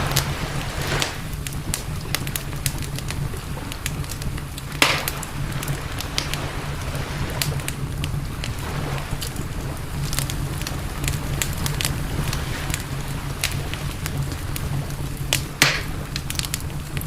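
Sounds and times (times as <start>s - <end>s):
wood campfire crackling: 0.0s - 17.0s.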